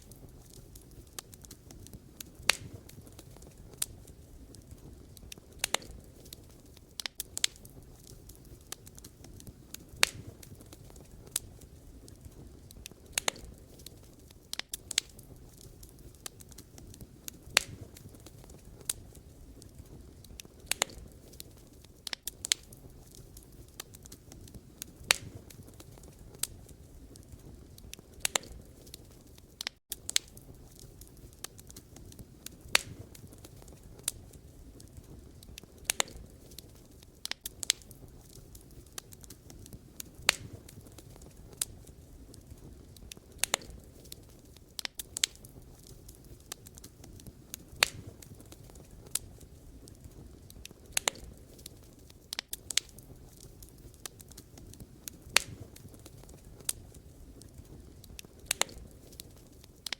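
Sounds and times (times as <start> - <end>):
firewood crackling and popping: 0.0 - 59.9
low rumble of flames: 0.0 - 59.9.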